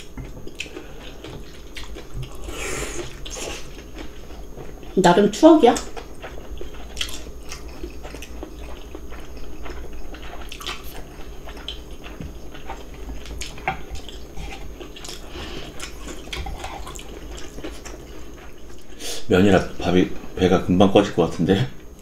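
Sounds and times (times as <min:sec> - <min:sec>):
chewing and slurping: 0:00.0 - 0:05.0, 0:05.7 - 0:19.0.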